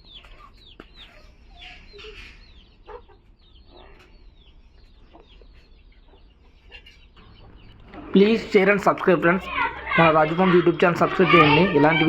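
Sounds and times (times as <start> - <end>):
chicks peeping: 0.0 - 12.0
hen clucks: 0.0 - 12.0.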